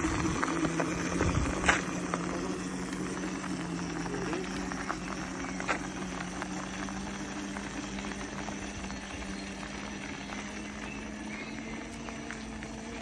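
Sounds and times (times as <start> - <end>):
constant rushing noise: 0.0 - 13.0
electric motor hum: 0.0 - 13.0.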